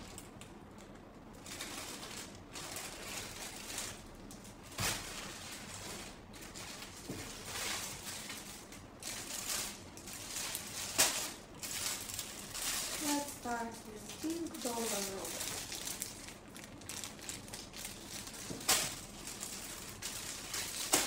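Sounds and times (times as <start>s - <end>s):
plastic packaging rustling: 0.0s - 21.0s.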